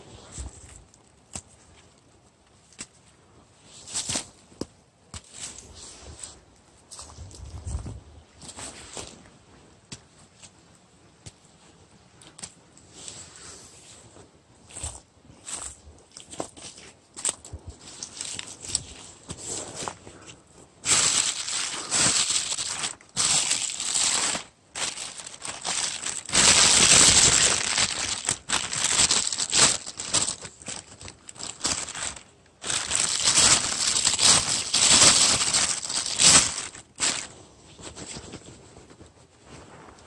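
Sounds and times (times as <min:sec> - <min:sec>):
rustling and crunching of plants: 0:00.0 - 0:40.0.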